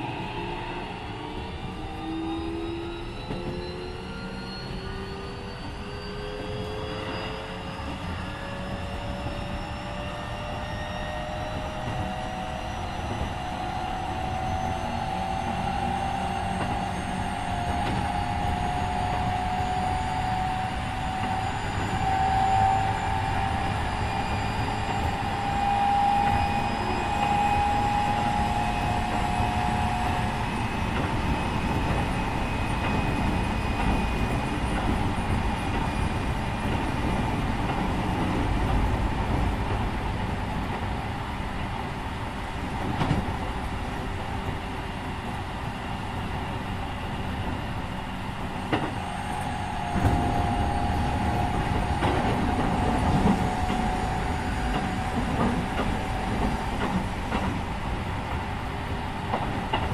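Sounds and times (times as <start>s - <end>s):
train motor whine: 0.0s - 59.9s
train wheels rumbling on track: 0.0s - 59.9s.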